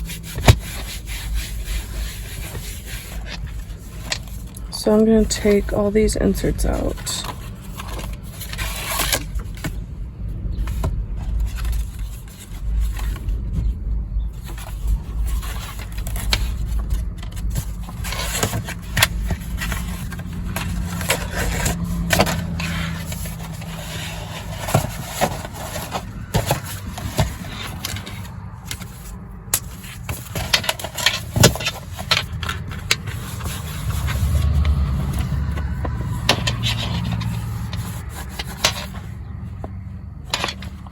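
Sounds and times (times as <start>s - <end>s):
paper rustling and scraping: 0.0s - 9.8s, 10.6s - 40.9s
steady low rumble: 0.0s - 40.9s.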